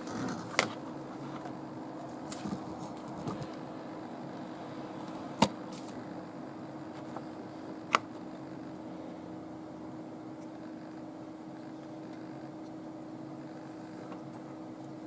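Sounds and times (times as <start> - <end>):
steady low room hum: 0.0 - 15.0.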